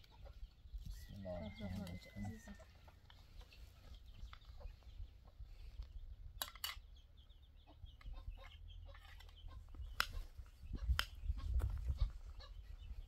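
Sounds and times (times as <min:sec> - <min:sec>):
chickens clucking: 0:00.0 - 0:06.1, 0:06.7 - 0:13.0.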